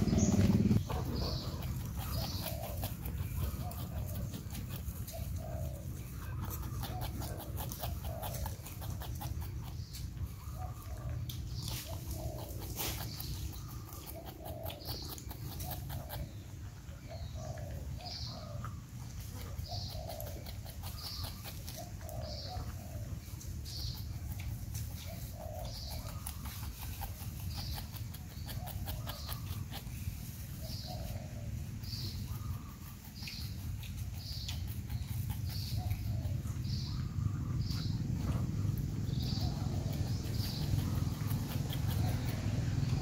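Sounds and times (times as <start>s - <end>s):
porcupine chewing fruit: 0.0s - 43.0s.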